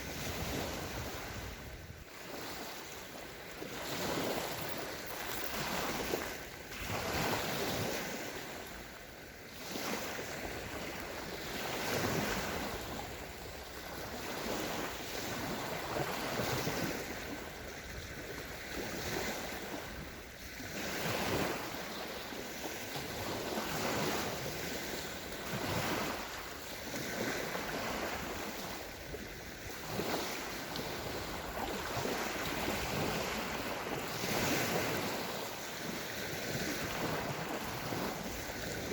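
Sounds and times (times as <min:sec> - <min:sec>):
small waves washing on sand: 0:00.0 - 0:38.9.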